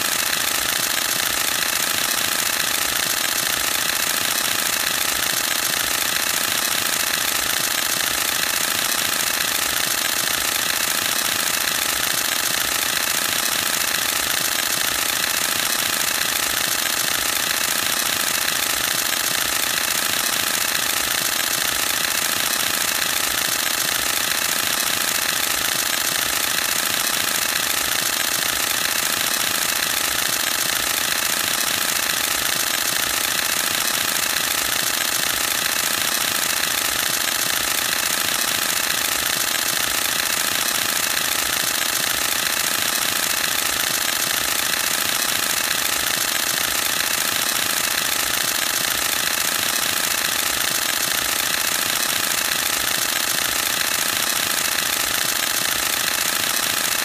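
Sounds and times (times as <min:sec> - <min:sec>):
camera shutter rapid clicking: 0:00.0 - 0:57.0.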